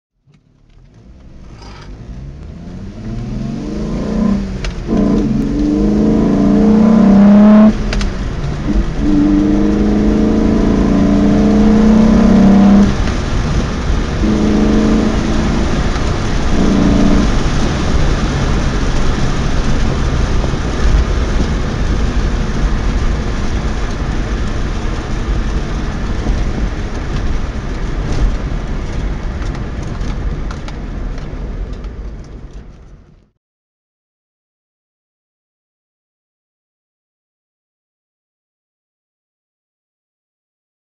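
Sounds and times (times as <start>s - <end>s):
car engine with induction roar: 0.2s - 33.2s
road noise: 0.2s - 33.4s.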